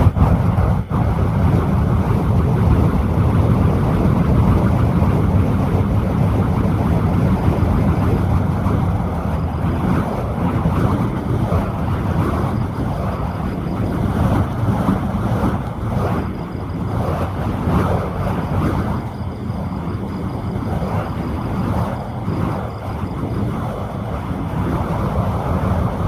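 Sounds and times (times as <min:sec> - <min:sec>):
fire staff whooshing: 0:00.0 - 0:26.0.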